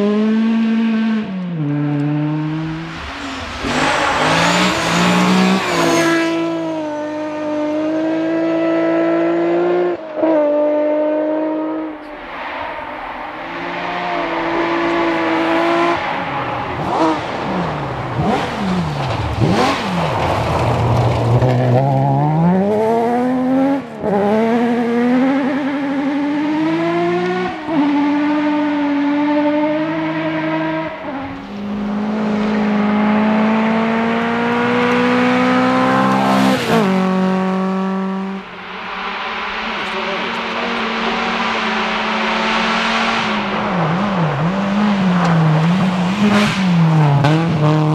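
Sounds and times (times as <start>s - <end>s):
rally car engine accelerating: 0.0s - 47.9s.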